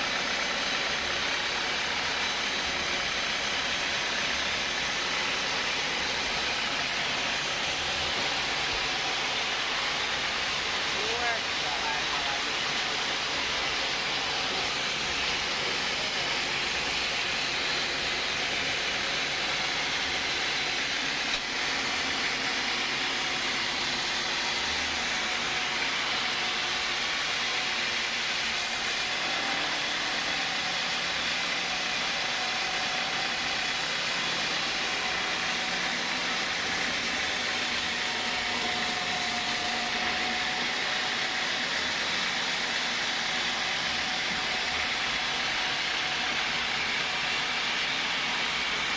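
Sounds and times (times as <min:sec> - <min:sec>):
sawmill saw running: 0:00.0 - 0:48.9.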